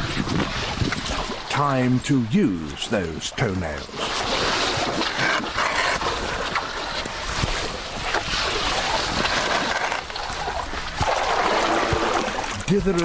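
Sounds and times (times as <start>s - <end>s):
water churning and splashing: 0.0s - 13.0s.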